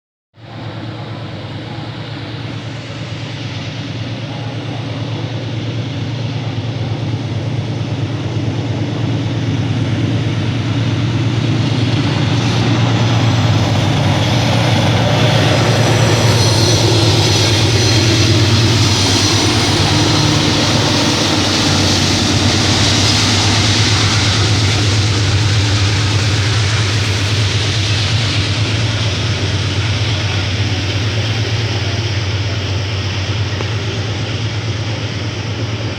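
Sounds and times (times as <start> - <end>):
locomotive engine drone: 0.4 - 35.9
train wheels rumbling on rails: 0.4 - 35.9.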